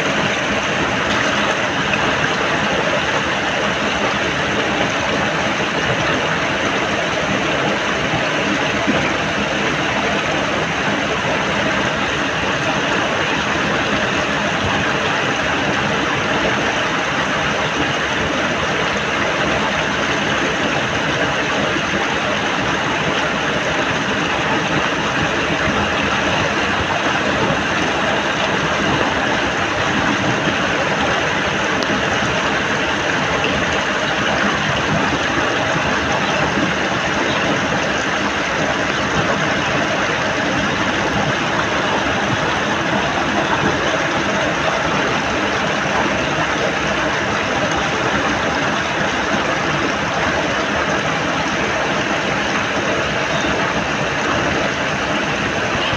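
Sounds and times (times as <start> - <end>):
muddy water rushing: 0.0 - 55.9.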